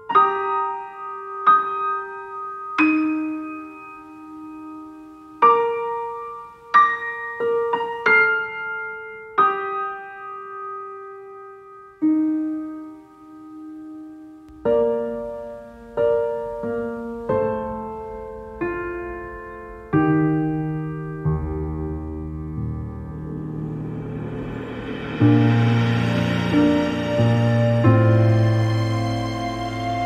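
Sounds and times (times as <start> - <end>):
lower piano accompaniment: 0.0 - 30.0
slow piano music: 0.0 - 30.0.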